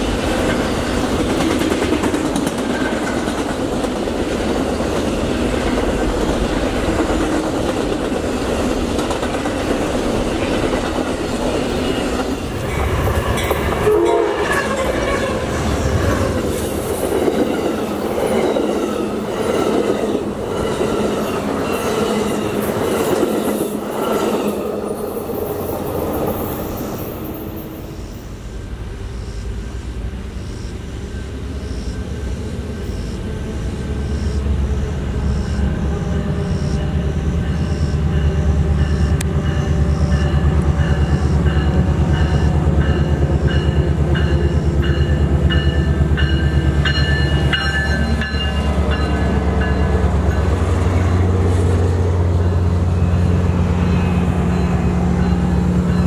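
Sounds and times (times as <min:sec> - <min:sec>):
diesel locomotive engine drone: 0:00.0 - 0:56.0
passenger train rushing past: 0:00.0 - 0:56.0.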